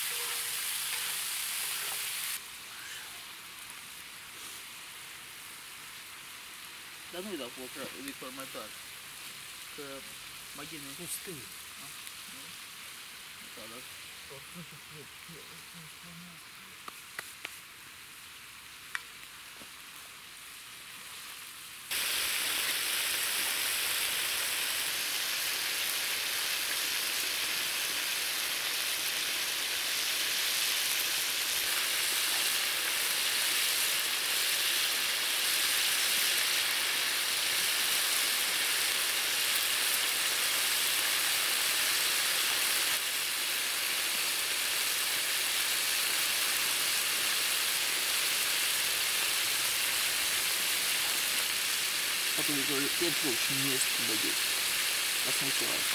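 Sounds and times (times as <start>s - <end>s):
meat sizzling in a pan: 0.0s - 55.9s.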